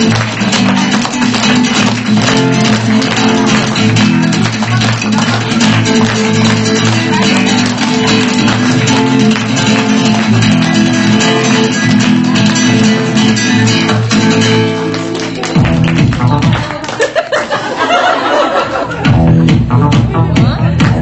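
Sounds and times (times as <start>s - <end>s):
flamenco guitar strummed and plucked: 0.0s - 17.1s, 19.0s - 21.0s.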